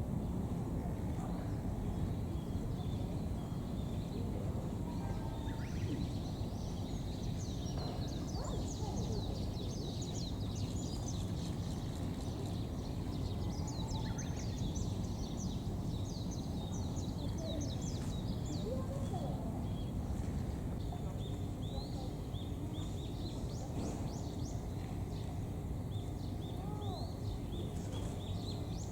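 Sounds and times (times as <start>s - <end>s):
small birds chirping: 1.3s - 28.9s.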